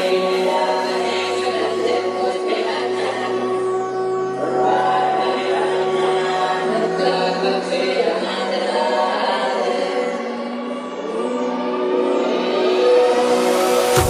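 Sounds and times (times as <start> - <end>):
choir-like chanting voices: 0.0 - 14.0
held synth tones: 0.0 - 14.0
low rising tone: 0.0 - 14.0.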